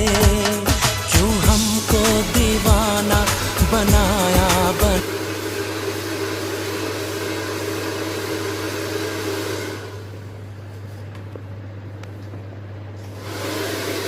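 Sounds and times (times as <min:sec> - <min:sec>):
blow dryer running: 0:00.0 - 0:10.4, 0:13.0 - 0:14.0.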